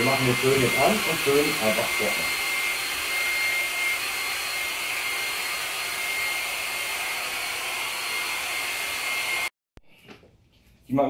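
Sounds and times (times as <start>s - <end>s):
hair dryer blowing: 0.0s - 9.5s.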